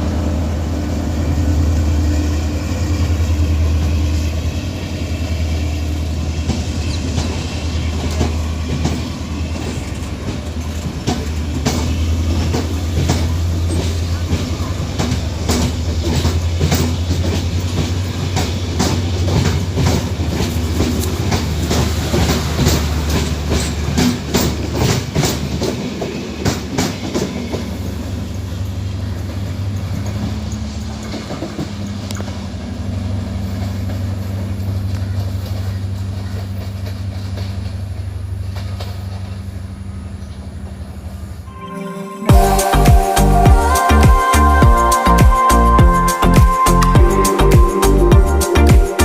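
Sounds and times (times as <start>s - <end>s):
diesel engine drone: 0.0s - 24.0s, 28.1s - 49.0s
train wheels clicking over rail joints: 0.0s - 41.2s.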